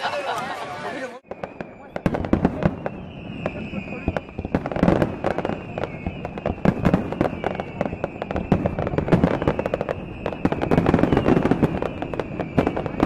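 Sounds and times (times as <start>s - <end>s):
fireworks bursting and crackling: 1.2s - 13.0s.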